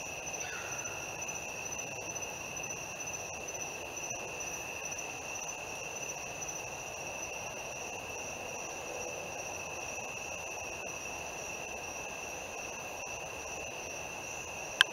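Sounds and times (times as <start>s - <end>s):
crickets trilling: 0.0s - 14.9s.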